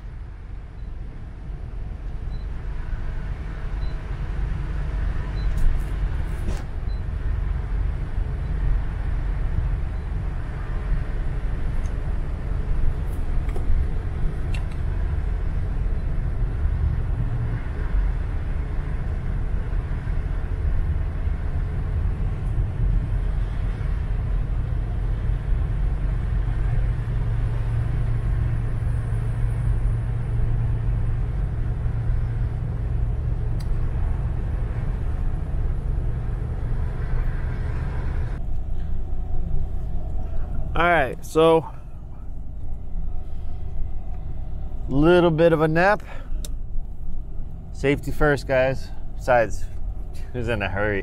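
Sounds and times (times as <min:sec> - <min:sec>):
car interior driving rumble: 0:00.0 - 0:51.0.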